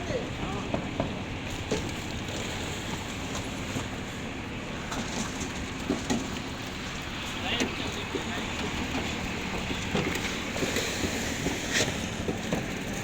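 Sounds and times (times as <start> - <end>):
concrete machinery rumbling: 0.0 - 13.0.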